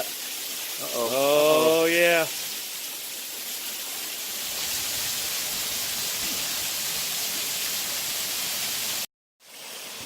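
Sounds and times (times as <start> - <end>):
waterfall splashing: 0.0 - 10.0.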